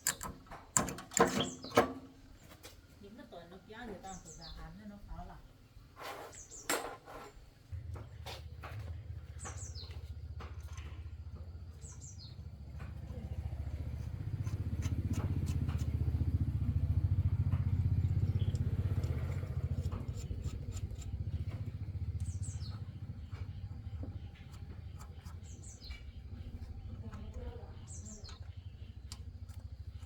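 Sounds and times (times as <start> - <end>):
tractor engine rumble: 0.0 - 2.4, 6.5 - 30.0
birds chirping: 0.0 - 30.0.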